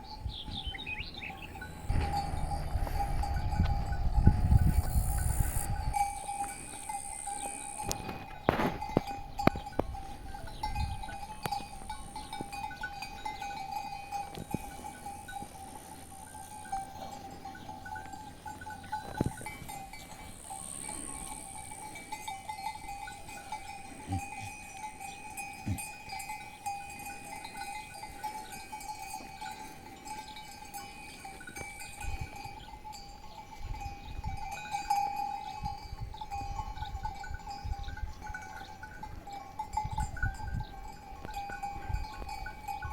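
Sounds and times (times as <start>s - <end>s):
livestock bells jangling: 0.0s - 42.9s.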